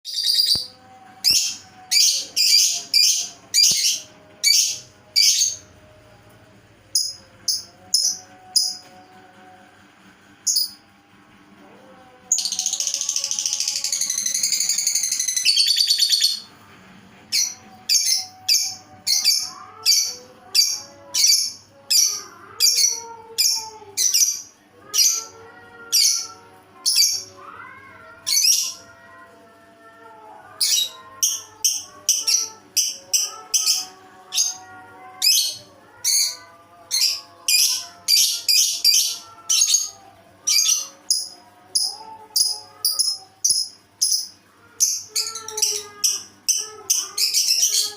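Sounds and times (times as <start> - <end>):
faint music: 0.1 - 47.9.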